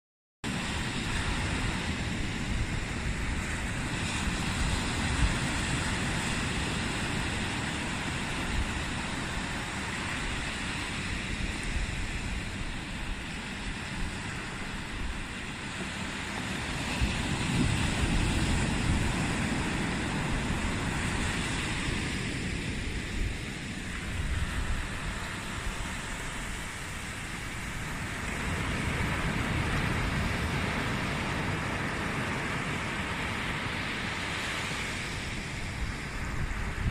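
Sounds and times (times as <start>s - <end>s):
surf washing up a sandy beach: 0.5s - 36.9s.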